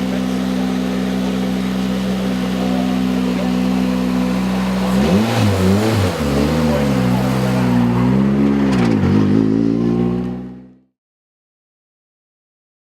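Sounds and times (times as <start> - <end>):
rally car engine revving: 0.0 - 10.9.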